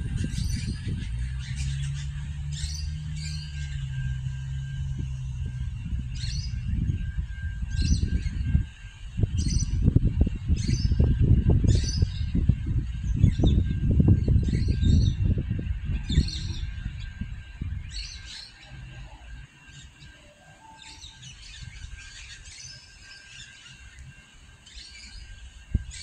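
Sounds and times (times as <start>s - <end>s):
bird chirping calls: 0.0s - 26.0s
low outdoor rumble: 0.0s - 26.0s
steady low hum: 0.0s - 26.0s.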